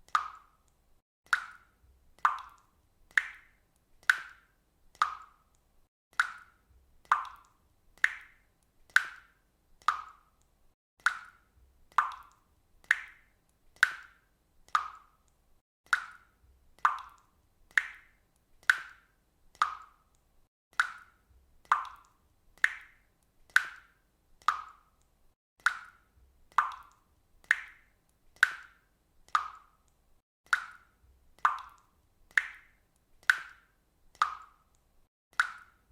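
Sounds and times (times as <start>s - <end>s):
water dripping: 0.0s - 35.9s.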